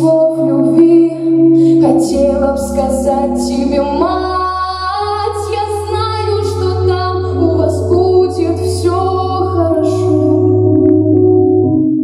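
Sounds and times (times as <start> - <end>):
woman singing long notes: 0.0 - 10.6
instrumental accompaniment with bass: 0.0 - 12.0.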